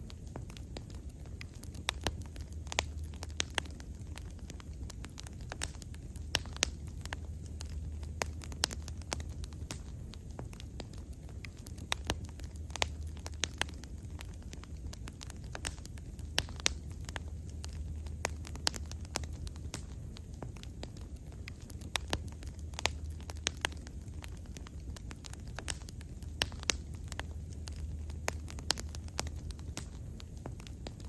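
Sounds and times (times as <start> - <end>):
burning wood popping: 0.0 - 31.0
low fire rumble: 0.0 - 31.0
wood bonfire crackling: 0.0 - 31.0.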